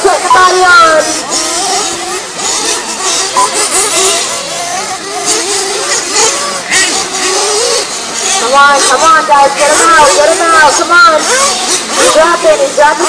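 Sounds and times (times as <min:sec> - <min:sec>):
small rc engines revving: 0:00.0 - 0:13.0
voices: 0:00.0 - 0:13.0.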